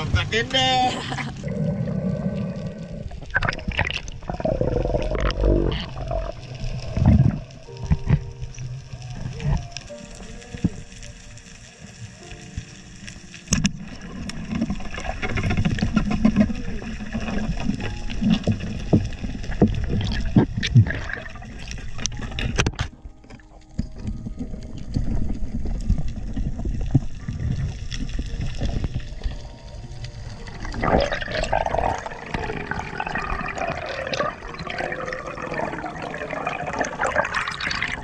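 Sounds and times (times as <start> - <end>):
water sloshing and bubbling: 0.0 - 38.0.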